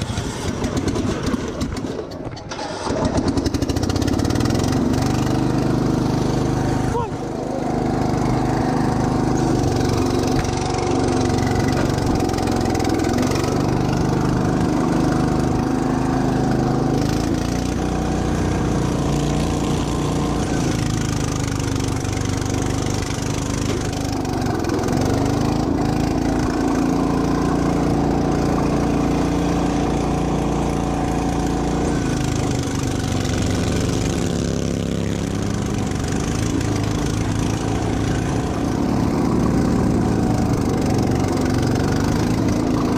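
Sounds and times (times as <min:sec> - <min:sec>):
riding lawn mower engine: 0:00.0 - 0:42.9.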